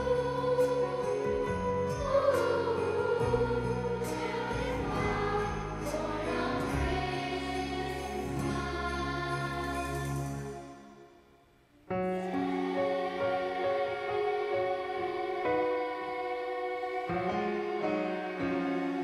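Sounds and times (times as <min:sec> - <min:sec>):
children's choir singing: 0:00.0 - 0:11.1, 0:12.0 - 0:19.0.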